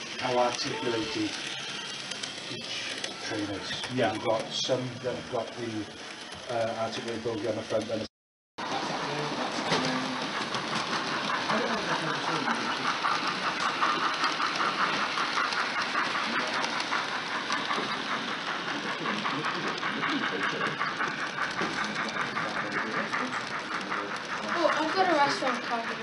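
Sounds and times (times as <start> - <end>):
model trains running on track: 0.0 - 26.0.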